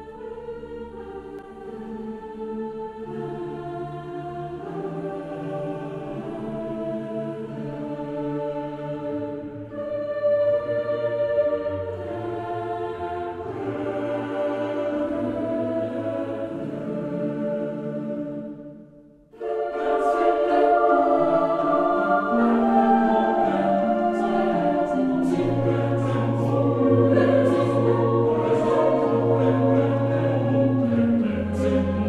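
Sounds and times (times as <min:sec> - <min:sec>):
background music of held chords: 0:00.0 - 0:32.0.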